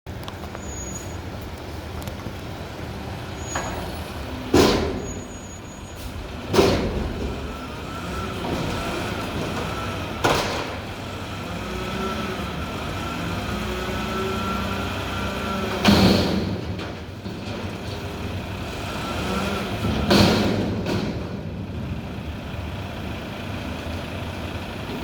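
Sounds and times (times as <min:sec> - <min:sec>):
garbage truck rumbling: 0:00.1 - 0:25.0.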